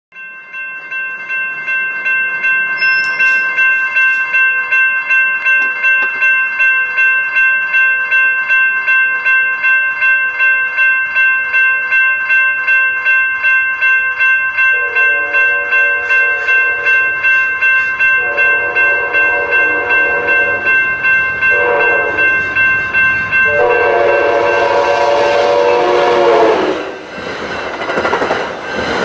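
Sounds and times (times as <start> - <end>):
railroad crossing bell ringing: 0.1 - 29.0.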